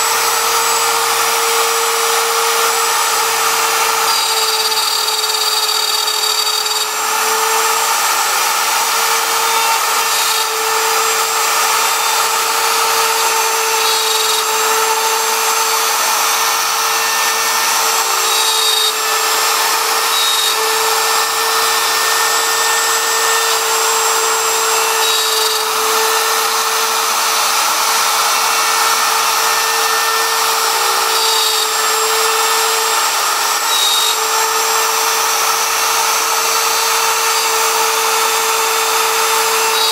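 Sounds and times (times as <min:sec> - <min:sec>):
bit cutting wood: 0:00.0 - 0:39.9
router spindle whine: 0:00.0 - 0:39.9.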